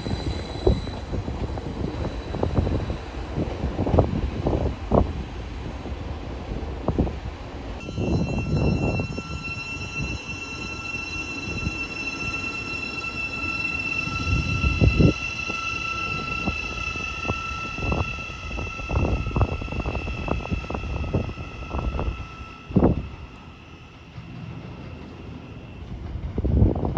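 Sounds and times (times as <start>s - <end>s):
high whine of train: 0.0s - 26.9s
train passing: 0.0s - 26.9s.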